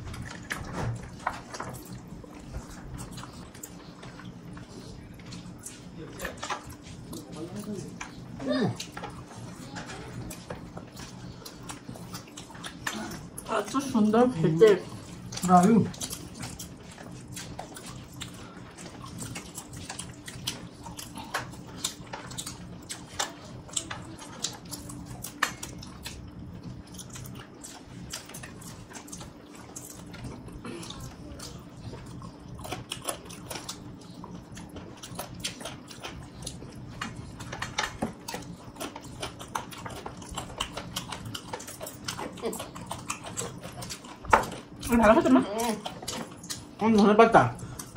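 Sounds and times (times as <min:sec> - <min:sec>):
faint steady hum: 0:00.0 - 0:47.9
wet chewing: 0:00.0 - 0:47.9.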